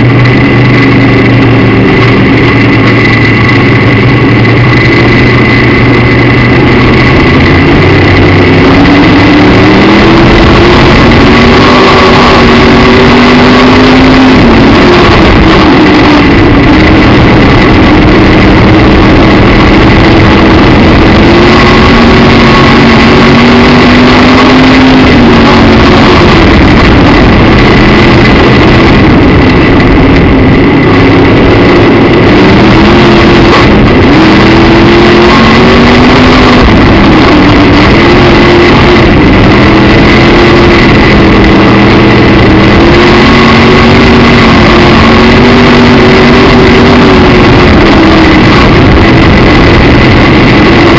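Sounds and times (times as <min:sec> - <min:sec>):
race car engine: 0:00.0 - 0:50.9
steady high whine: 0:00.0 - 0:50.9.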